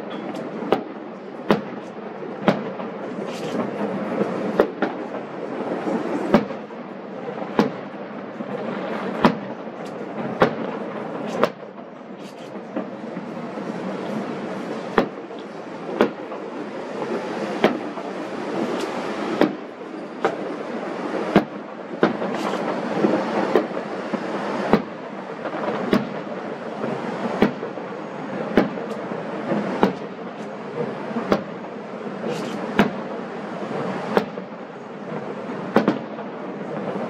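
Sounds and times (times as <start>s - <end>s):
distant fireworks bangs: 0.0s - 37.0s
steady rushing background noise: 0.0s - 37.0s.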